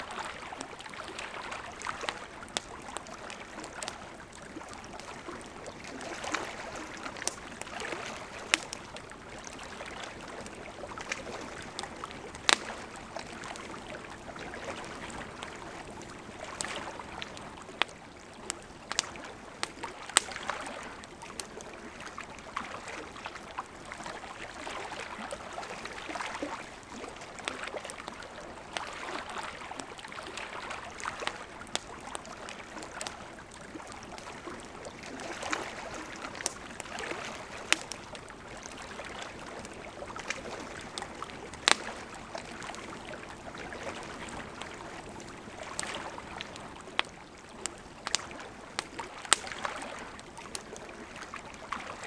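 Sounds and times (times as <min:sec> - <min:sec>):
campfire crackles and pops: 0:00.0 - 0:52.0.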